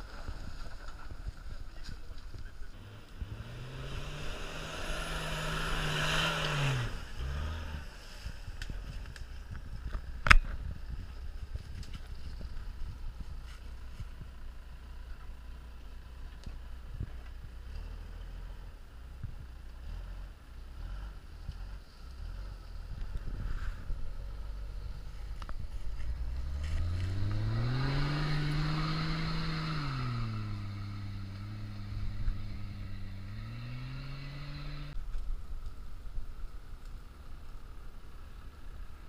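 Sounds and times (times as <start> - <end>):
engine pulling at low revs: 0.0 - 35.2.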